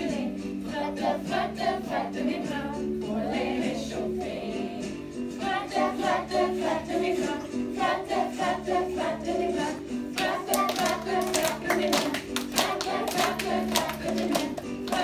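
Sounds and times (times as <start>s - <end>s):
children singing together: 0.0s - 15.0s
instrumental accompaniment: 0.1s - 15.0s.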